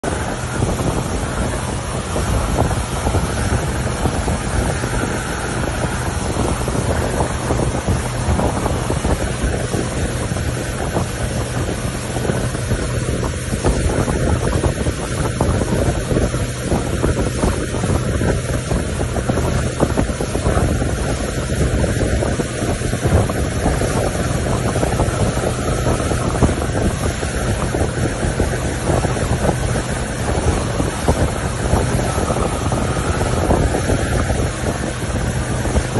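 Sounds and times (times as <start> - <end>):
outboard motor running: 0.0 - 35.9
rushing wake spray: 0.0 - 35.9
wind noise on microphone: 0.0 - 35.9.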